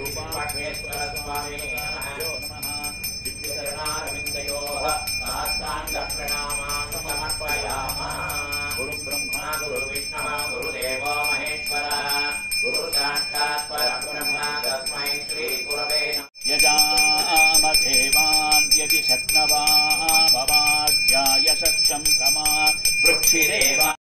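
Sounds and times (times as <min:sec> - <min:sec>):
hand bell ringing: 0:00.0 - 0:24.0
priests chanting: 0:00.0 - 0:24.0.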